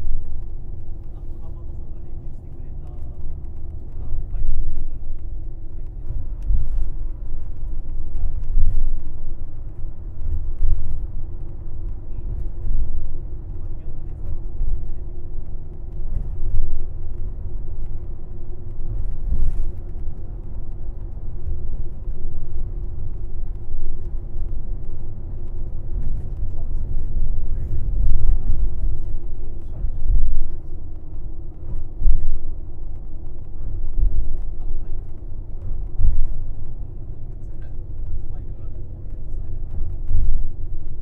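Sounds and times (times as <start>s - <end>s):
coach engine and road rumble: 0.0s - 41.0s
constant drone: 0.0s - 41.0s.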